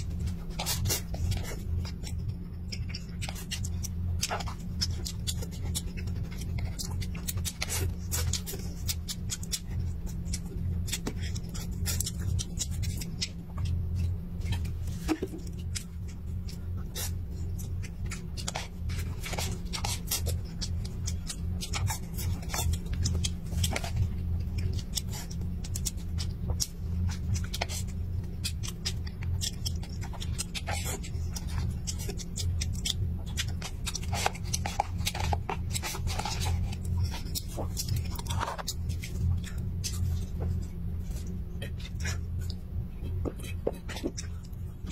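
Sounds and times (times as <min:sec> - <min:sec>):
low hum: 0:00.0 - 0:44.9
mouth chewing sounds: 0:00.0 - 0:44.9.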